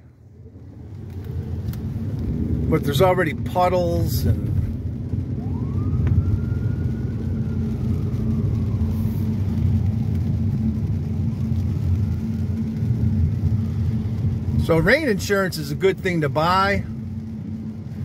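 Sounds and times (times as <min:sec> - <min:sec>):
car driving on wet road: 0:00.0 - 0:18.0.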